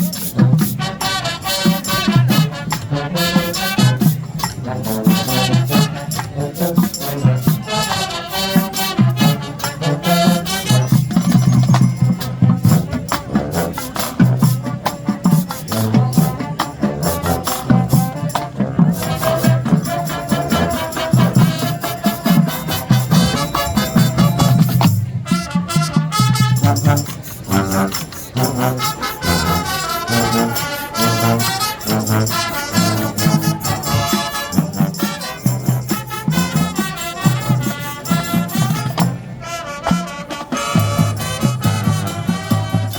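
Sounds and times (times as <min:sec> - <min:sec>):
brass melody: 0:00.0 - 0:42.9
drumline percussion: 0:00.0 - 0:42.9.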